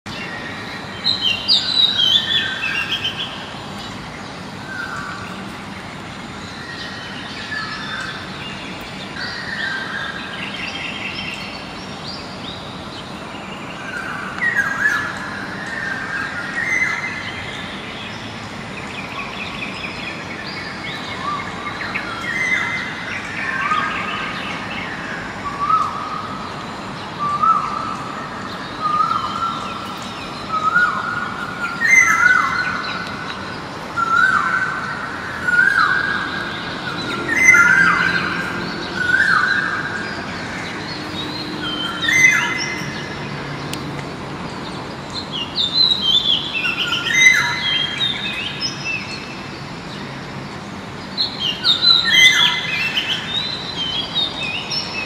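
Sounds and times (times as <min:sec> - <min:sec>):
songbirds singing and calling: 0:00.1 - 0:55.0.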